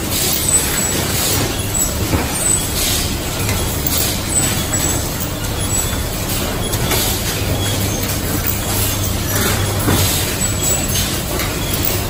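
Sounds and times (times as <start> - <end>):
factory machinery hum: 0.0 - 12.0.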